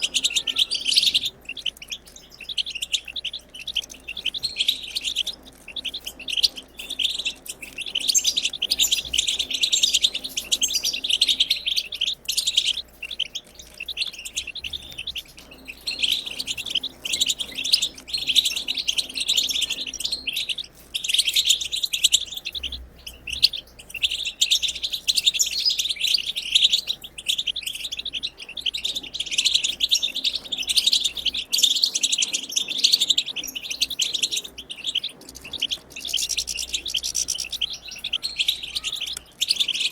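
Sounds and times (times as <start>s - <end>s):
goldfinch twittering chatter: 0.0s - 39.9s.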